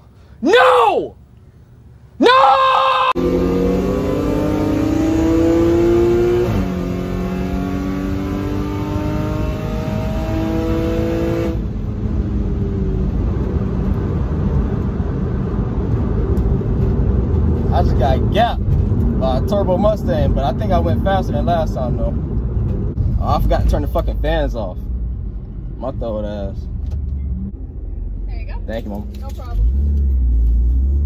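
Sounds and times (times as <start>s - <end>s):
road and wind noise: 3.1s - 31.0s
car engine at full throttle: 3.2s - 28.1s.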